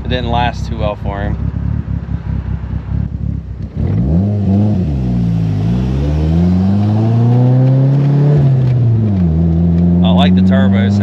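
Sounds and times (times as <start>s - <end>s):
car engine accelerating hard: 1.2s - 11.0s.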